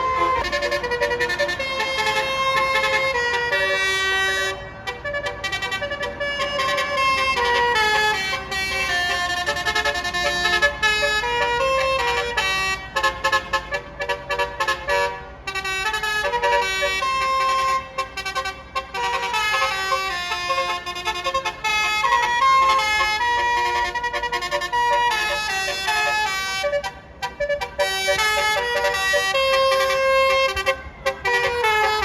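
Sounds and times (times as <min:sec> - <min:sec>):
musical bus air horn: 0:00.0 - 0:32.0.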